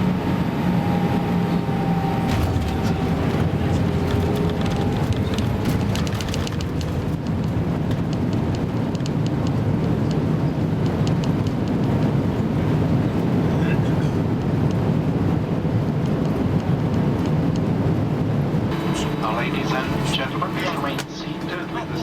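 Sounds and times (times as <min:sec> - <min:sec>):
engine and air roar in cabin: 0:00.0 - 0:22.0.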